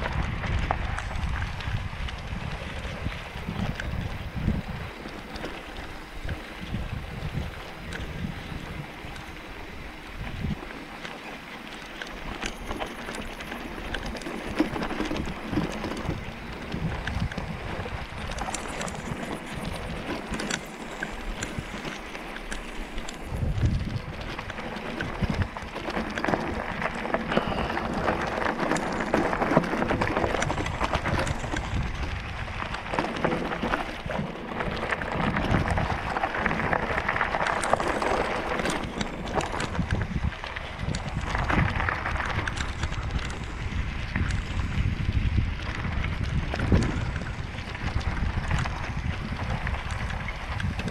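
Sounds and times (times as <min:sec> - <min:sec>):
wind on microphone: 0:00.0 - 0:10.8, 0:12.2 - 0:50.9
bike rattling: 0:00.0 - 0:50.9
bike tyres crunching on dirt: 0:00.0 - 0:50.9.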